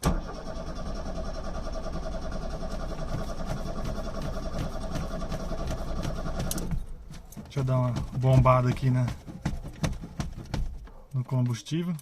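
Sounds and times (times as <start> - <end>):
starter motor cranking engine: 0.0 - 10.8.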